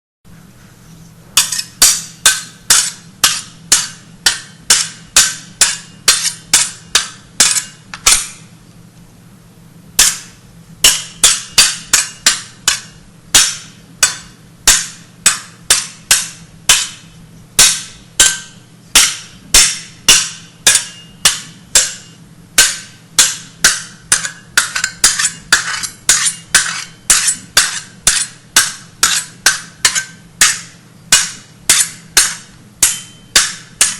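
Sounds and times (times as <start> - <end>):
hammer striking with ring: 1.4 - 8.5, 10.0 - 33.9.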